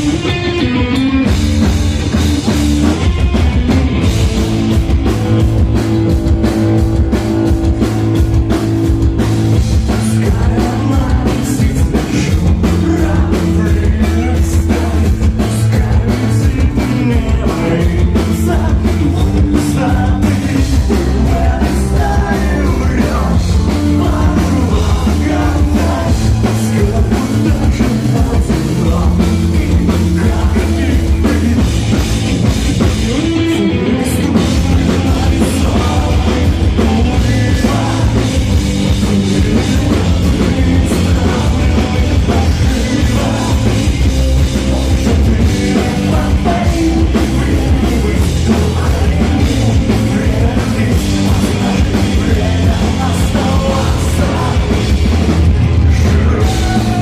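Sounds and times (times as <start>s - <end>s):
rock band playing live: 0.0s - 57.0s
person singing: 9.8s - 32.1s, 32.8s - 55.2s, 55.8s - 57.0s.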